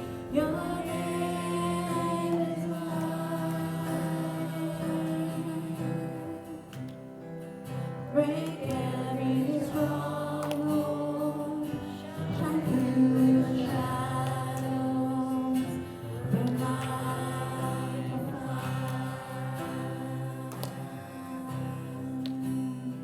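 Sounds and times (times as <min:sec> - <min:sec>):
voices singing gospel: 0:00.0 - 0:07.0, 0:07.7 - 0:23.0.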